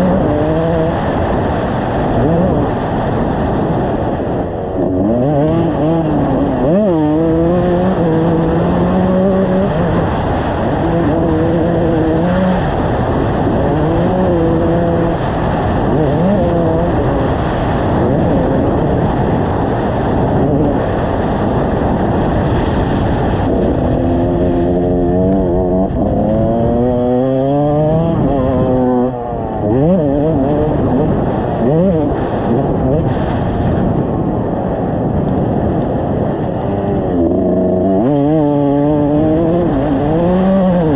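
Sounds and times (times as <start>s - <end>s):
dirt bike engine revving: 0.0s - 33.5s, 36.2s - 40.9s
steady rushing noise: 0.0s - 40.9s.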